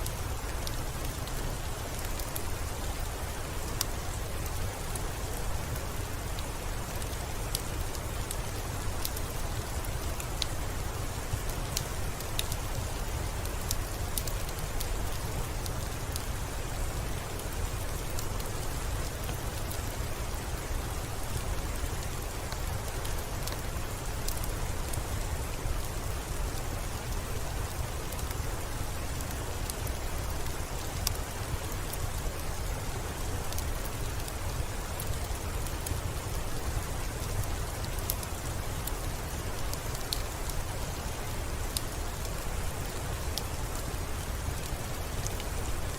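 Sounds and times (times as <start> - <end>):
raindrop ticks: 0.0 - 27.3, 27.9 - 45.9
steady rain hiss: 0.0 - 45.9.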